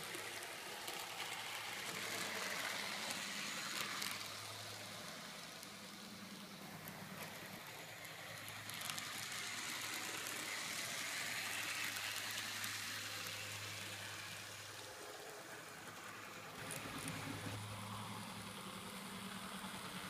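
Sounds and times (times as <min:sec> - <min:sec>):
model train wheels rattling: 0:00.0 - 0:17.6
small motor whirring: 0:00.0 - 0:20.0.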